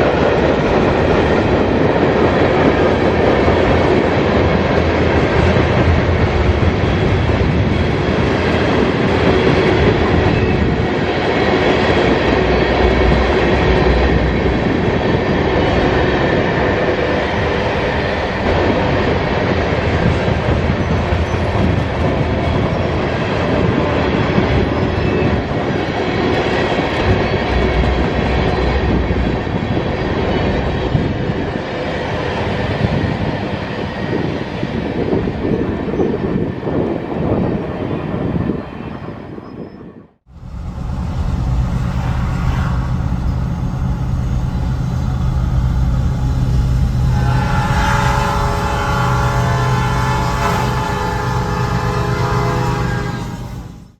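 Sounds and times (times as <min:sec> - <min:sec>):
train wheels rumbling on rail: 0:00.0 - 0:38.4, 0:40.3 - 0:53.9.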